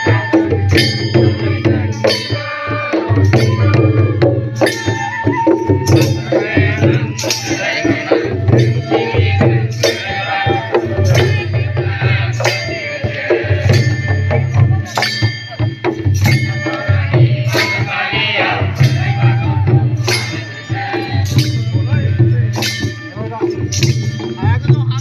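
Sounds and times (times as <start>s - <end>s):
folk music with drums: 0.0s - 25.0s
jingling percussion: 0.0s - 25.0s.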